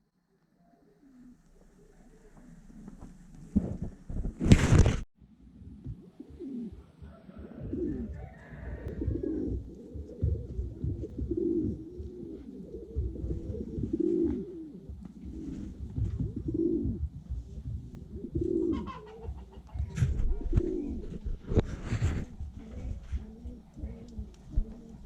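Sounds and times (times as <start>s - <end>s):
pigeons cooing: 0.8s - 4.1s, 5.4s - 25.0s
rustling: 1.0s - 25.0s.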